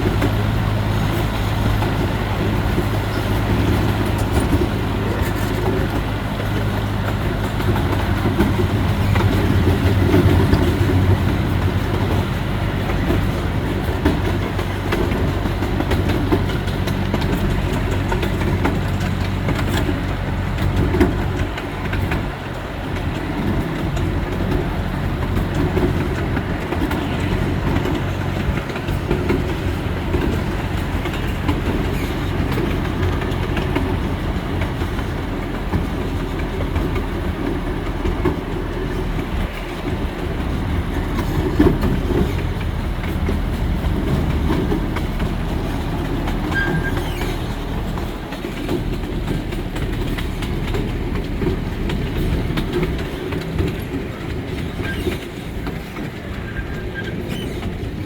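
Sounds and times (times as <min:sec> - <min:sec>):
locomotive engine humming: 0:00.0 - 0:58.0
train wheels rumbling on rails: 0:00.0 - 0:58.0.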